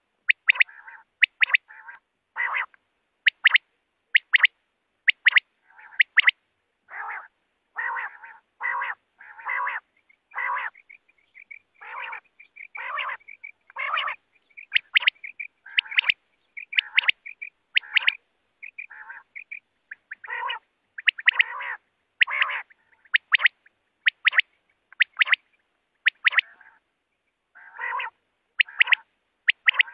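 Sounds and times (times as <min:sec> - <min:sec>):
quail raspy calls: 0:00.0 - 0:26.9, 0:27.5 - 0:29.9
quail clipped notes: 0:00.2 - 0:26.8, 0:27.6 - 0:29.9.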